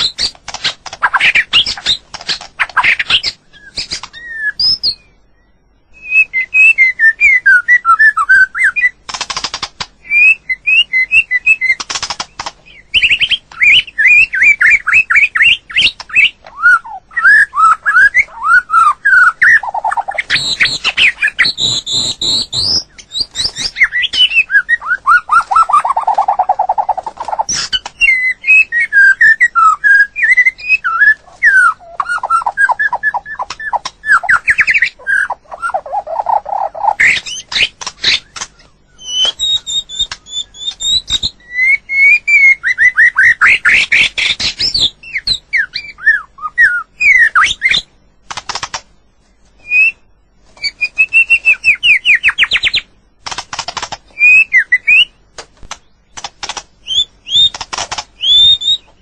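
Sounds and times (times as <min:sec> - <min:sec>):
sharp bird clicks: 0:00.0 - 0:05.0, 0:08.2 - 0:18.2, 0:18.8 - 0:45.8, 0:47.1 - 0:48.9, 0:50.6 - 0:59.0
bird singing whistled phrases: 0:02.8 - 0:09.0, 0:10.0 - 0:11.8, 0:12.7 - 0:47.9, 0:49.6 - 0:52.9, 0:54.1 - 0:55.2, 0:56.8 - 0:57.6, 0:58.2 - 0:58.9.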